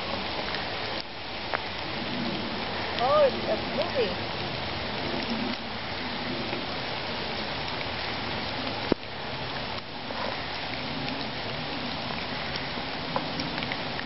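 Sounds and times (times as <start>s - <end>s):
snowstorm hiss: 0.0s - 14.0s.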